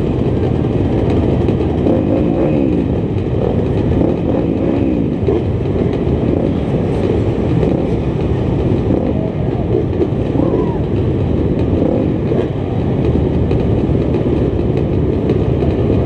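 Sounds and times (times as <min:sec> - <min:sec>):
motorcycle engines idling and revving: 0:00.0 - 0:16.0.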